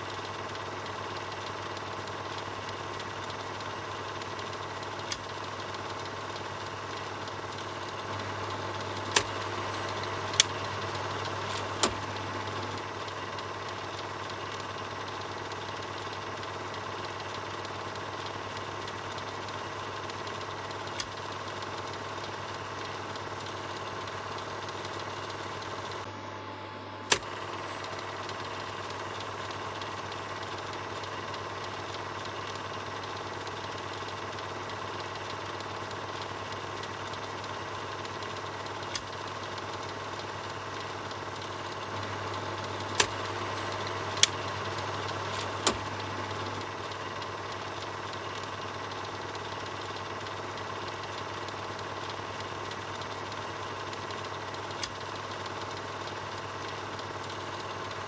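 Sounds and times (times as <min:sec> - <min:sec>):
film projector whirring: 0:00.0 - 0:58.0
sharp clicks: 0:02.4 - 0:19.3, 0:27.1 - 0:58.0.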